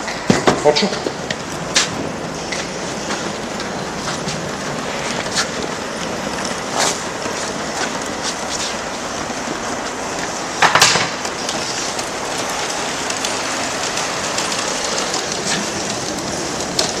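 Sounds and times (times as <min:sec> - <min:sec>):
model steam locomotive hissing: 0:00.7 - 0:17.0.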